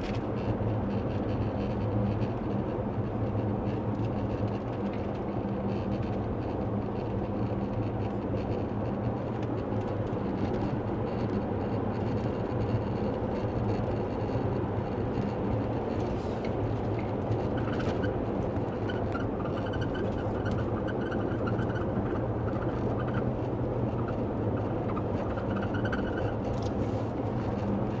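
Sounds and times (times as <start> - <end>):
road and engine drone: 0.0 - 28.0.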